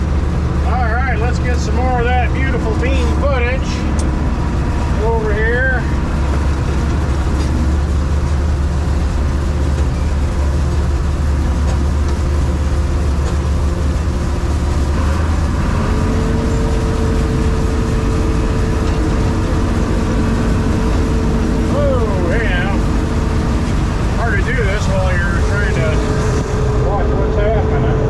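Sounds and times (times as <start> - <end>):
combine harvester drone: 0.0 - 28.0
steady machine whine: 0.0 - 28.0.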